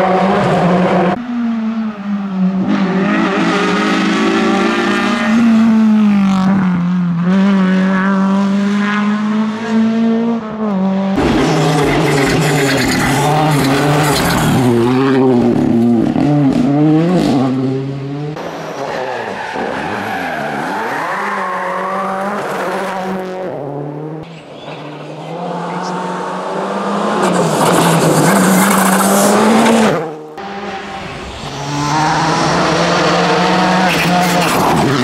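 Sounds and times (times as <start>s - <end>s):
rally car engine revving hard: 2.4s - 24.3s, 24.9s - 35.0s.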